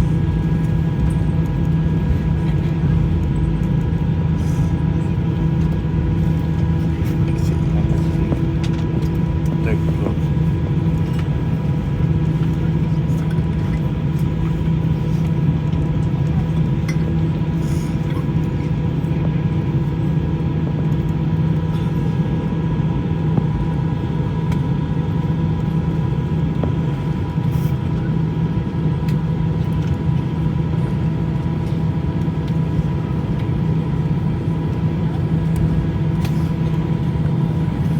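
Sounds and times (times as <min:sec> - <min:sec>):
engines and air conditioning drone: 0:00.0 - 0:37.9
faint steady whines: 0:00.0 - 0:37.9.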